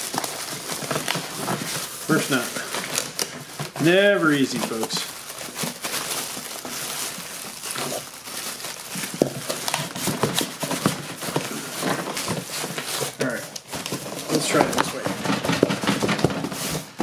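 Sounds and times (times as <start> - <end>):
cardboard box scraping and rustling: 0.0 - 17.0.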